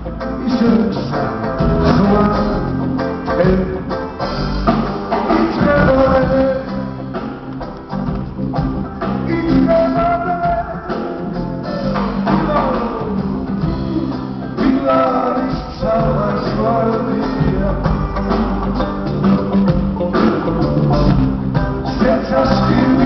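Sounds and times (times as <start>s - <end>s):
live rock band playing: 0.0s - 23.0s
sliding lead guitar melody: 0.0s - 23.0s.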